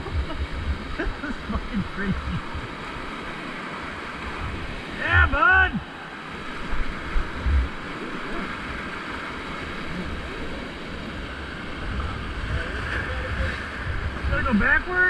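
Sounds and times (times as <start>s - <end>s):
wind buffeting on microphone: 0.0s - 3.3s, 3.9s - 14.9s
whitewater rapids rushing: 0.0s - 15.0s.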